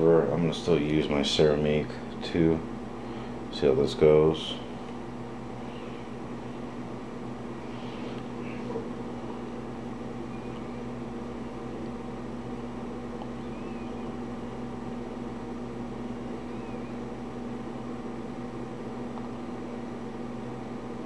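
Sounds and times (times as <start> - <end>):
fan or electrical hum: 0.0 - 21.0.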